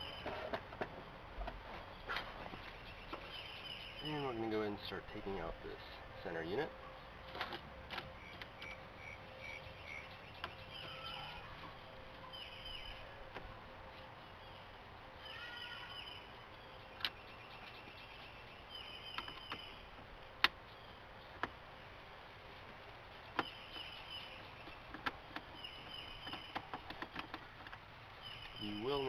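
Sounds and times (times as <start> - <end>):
faint birds chirping: 0.0 - 29.0.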